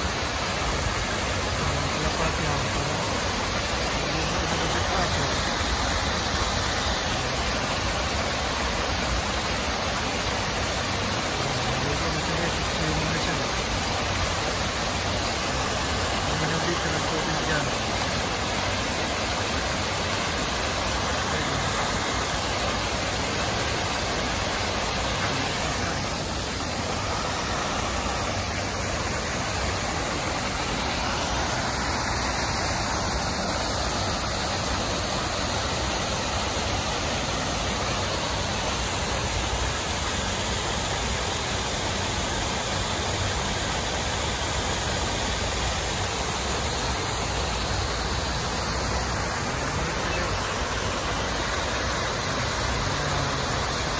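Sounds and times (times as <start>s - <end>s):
fountain jets spraying: 0.0s - 53.9s
waterfall splashing into pond: 0.0s - 53.9s.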